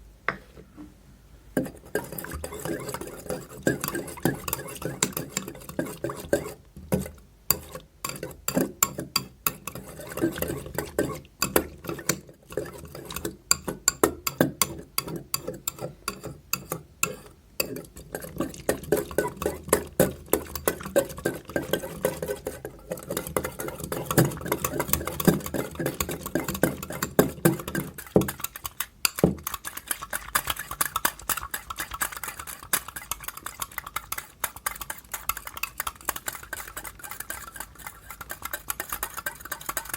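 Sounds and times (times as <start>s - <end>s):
spoon stirring thick slime in bowl: 1.5s - 39.9s.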